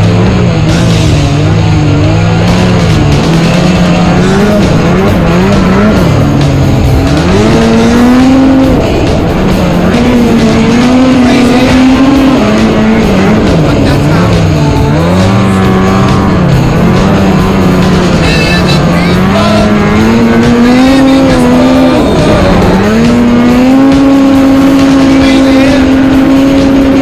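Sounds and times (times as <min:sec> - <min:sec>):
music playing: 0:00.0 - 0:27.0
snowmobile engine revving: 0:00.0 - 0:27.0.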